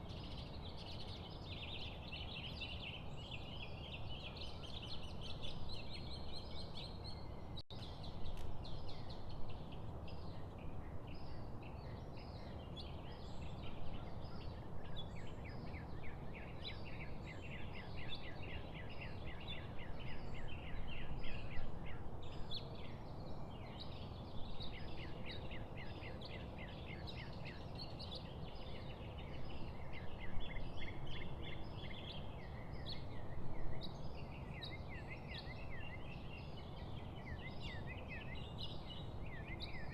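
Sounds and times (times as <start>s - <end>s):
low background noise: 0.0s - 39.9s
songbirds chirping and trilling: 0.0s - 39.9s.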